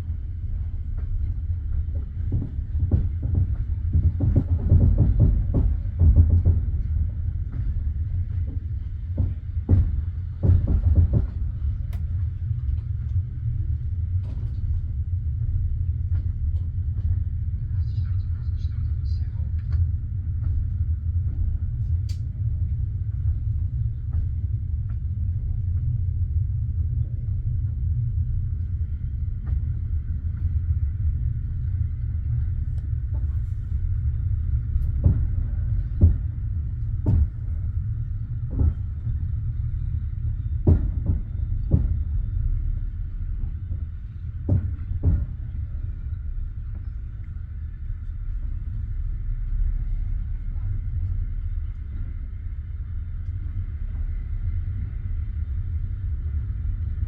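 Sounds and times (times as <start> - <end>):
train carriage rumbling: 0.0 - 57.0.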